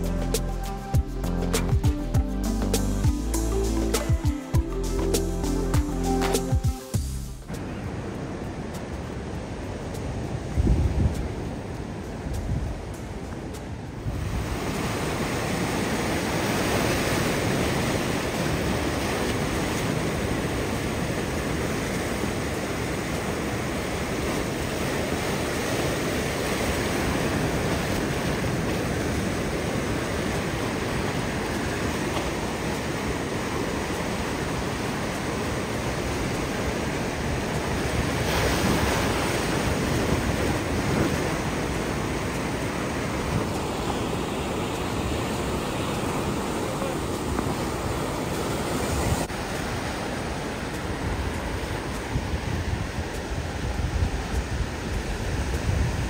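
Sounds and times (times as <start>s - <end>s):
ocean surf washing over rocks: 7.5s - 56.0s.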